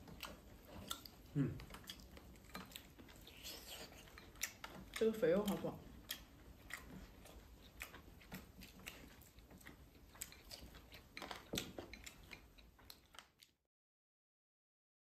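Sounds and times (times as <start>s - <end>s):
person chewing food: 0.0s - 13.6s.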